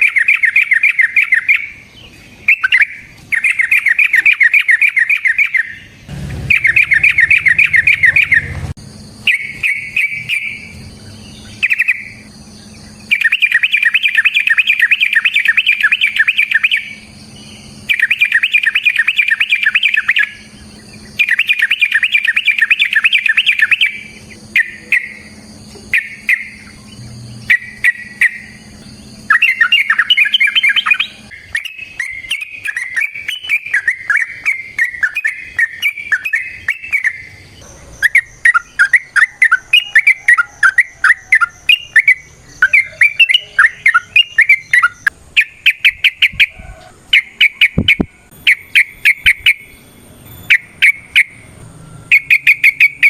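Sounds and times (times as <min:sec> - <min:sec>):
bird singing rattling runs: 0:00.0 - 0:51.5
faint steady hum: 0:00.0 - 0:53.0
high whine: 0:00.0 - 0:53.0.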